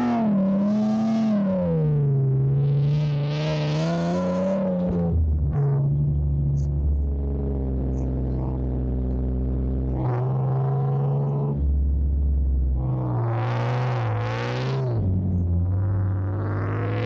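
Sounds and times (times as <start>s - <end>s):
deep bass: 0.0s - 17.0s.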